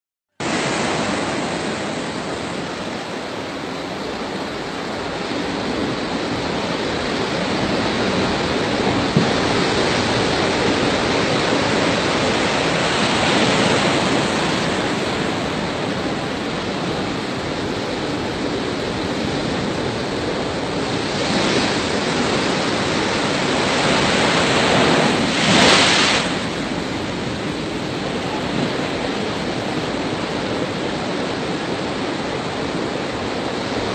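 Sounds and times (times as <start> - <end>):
sea waves breaking: 0.4 - 33.9.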